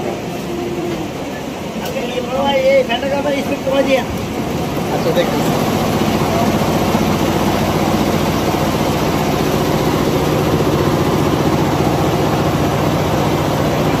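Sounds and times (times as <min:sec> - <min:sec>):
embroidery machine clatter: 0:00.0 - 0:14.0.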